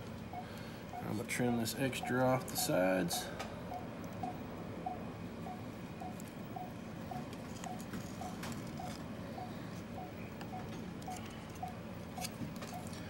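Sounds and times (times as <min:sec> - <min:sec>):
electronic device beeping: 0:00.0 - 0:13.0.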